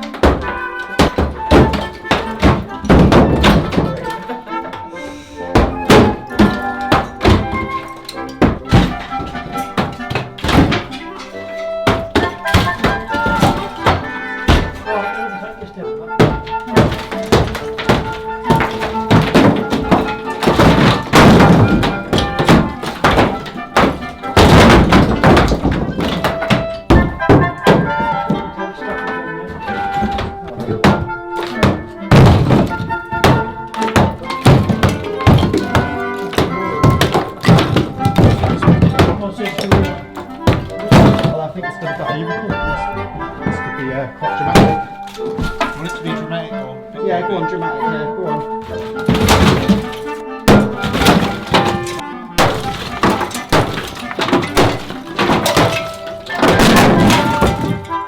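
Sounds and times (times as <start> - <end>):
blows knocking down brick wall: 0.0 - 47.0, 48.4 - 58.0
background music with held notes: 0.0 - 58.0
bricks cracking and falling: 0.0 - 58.0.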